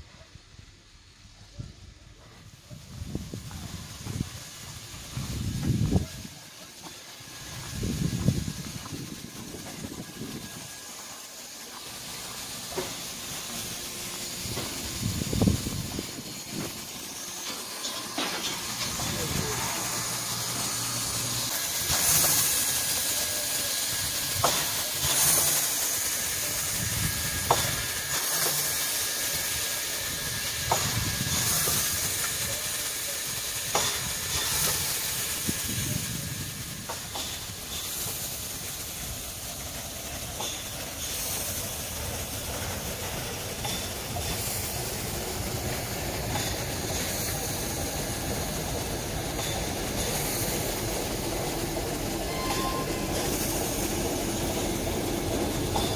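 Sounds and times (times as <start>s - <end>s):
steam locomotive chuffing: 0.0s - 55.9s
train rumble: 0.0s - 55.9s.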